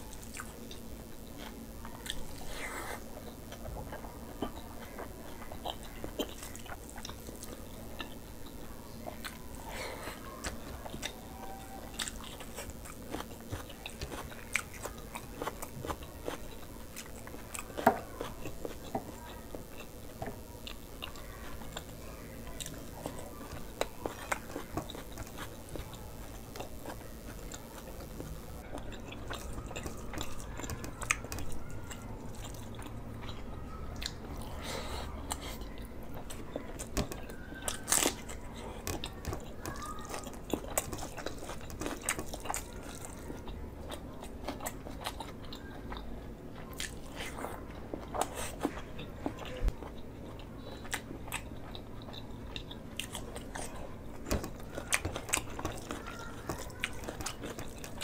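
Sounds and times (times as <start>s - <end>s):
food crunching: 0.0s - 58.0s
chewing and mouth smacking: 0.1s - 58.0s.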